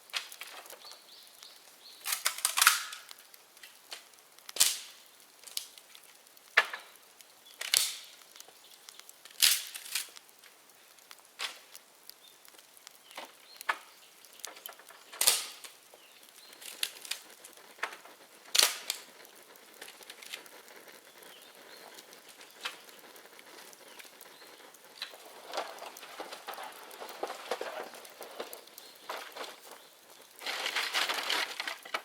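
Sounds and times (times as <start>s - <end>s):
bamboo bonfire crackling: 0.0s - 32.0s.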